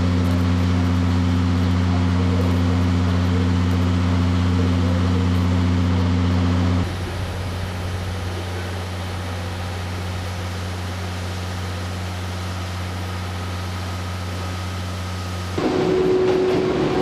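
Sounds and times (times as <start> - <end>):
electric train electrical hum: 0.0 - 17.0.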